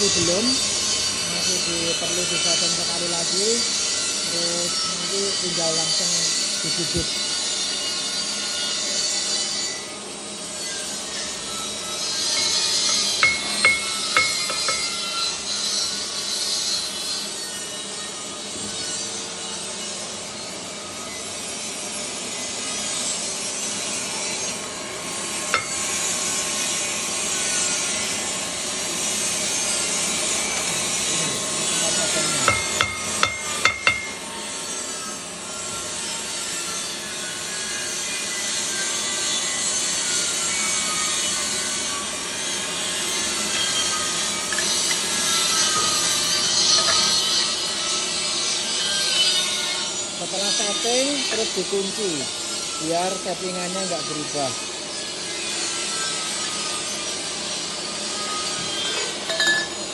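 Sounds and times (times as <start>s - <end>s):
rasping hissing workshop noise: 0.0s - 59.9s.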